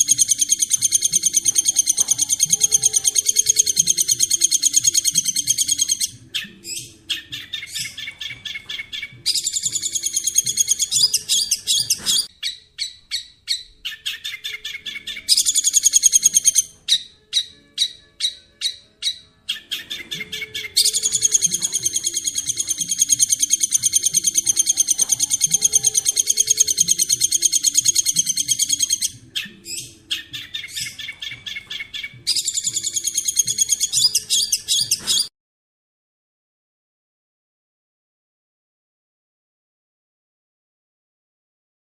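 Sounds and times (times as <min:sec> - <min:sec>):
bird sharp chips: 0:00.0 - 0:13.0, 0:13.9 - 0:35.3
songbird chattering trills: 0:00.0 - 0:35.3.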